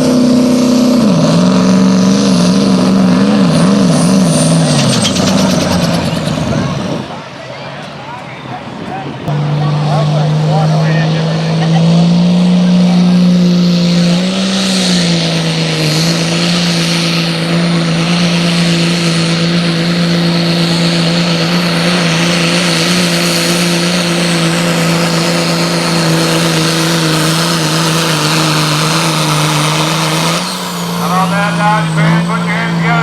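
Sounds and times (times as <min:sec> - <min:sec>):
truck engine running hard: 0:00.0 - 0:33.0.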